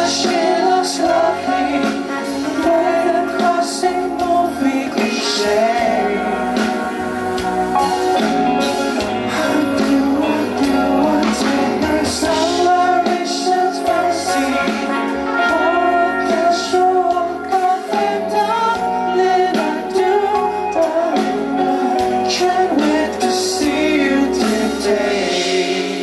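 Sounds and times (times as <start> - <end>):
man singing into microphone: 0.0 - 7.4, 9.0 - 26.0
live band with bass guitar: 0.0 - 26.0.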